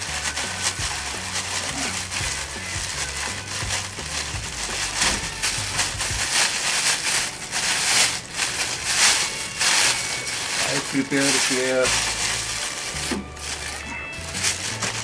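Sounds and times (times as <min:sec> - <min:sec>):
plastic bag rustling: 0:00.0 - 0:15.0.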